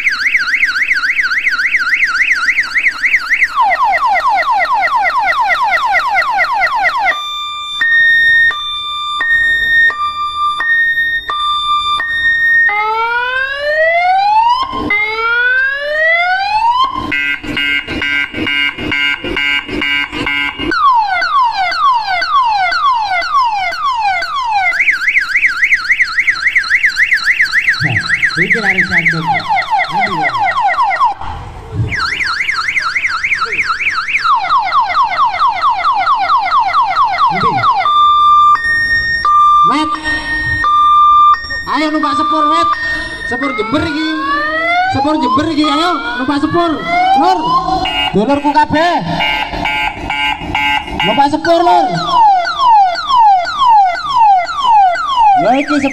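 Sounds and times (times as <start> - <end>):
car alarm siren: 0.0 - 55.9.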